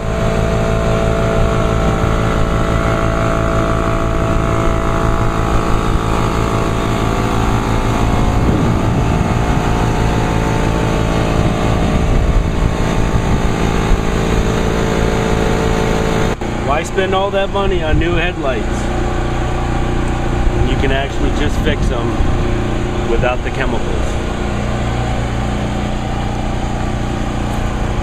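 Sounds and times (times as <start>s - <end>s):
motor humming steadily: 0.0s - 28.0s.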